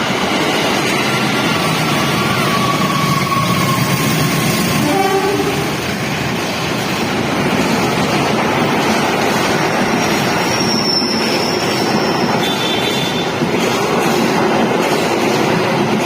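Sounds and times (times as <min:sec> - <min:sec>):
train passing on rails: 0:00.0 - 0:16.0.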